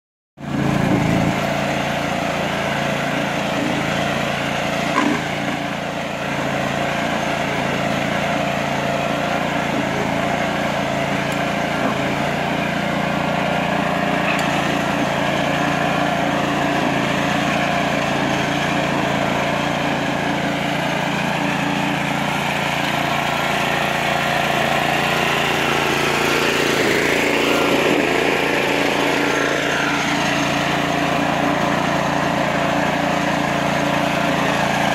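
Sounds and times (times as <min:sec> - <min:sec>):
mower engine running: 0:00.4 - 0:34.9.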